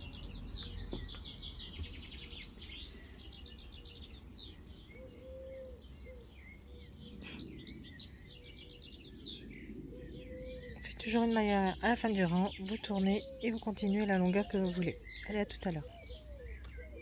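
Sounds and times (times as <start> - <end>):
small birds chirping and trilling: 0.0 - 17.0.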